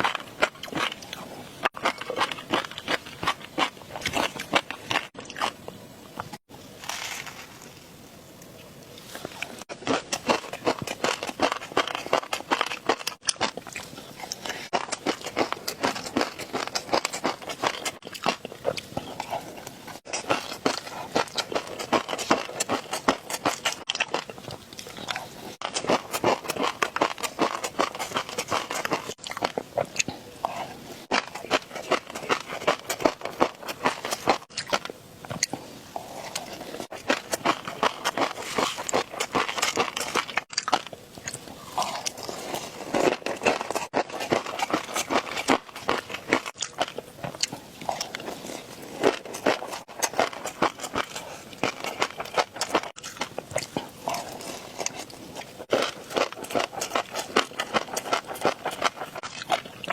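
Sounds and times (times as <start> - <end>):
crunching and chewing: 0.0 - 7.9, 8.5 - 59.9.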